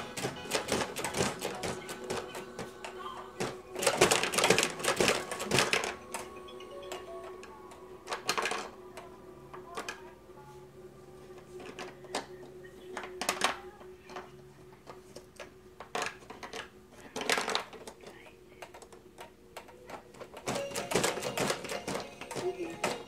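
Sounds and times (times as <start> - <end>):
plastic toys clacking and rattling: 0.0 - 10.1, 11.6 - 23.0
faint steady hum: 0.0 - 23.0.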